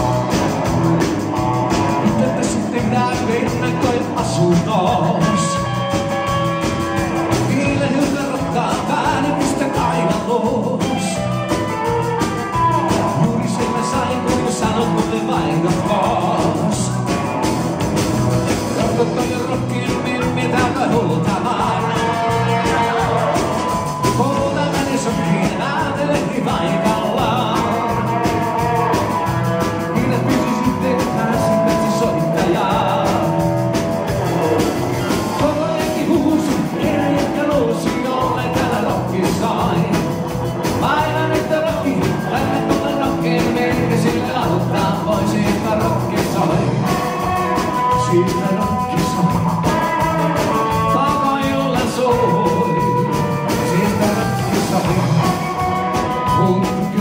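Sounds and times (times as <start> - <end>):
live rock band playing: 0.0 - 57.0
man singing: 1.7 - 17.6, 18.4 - 57.0.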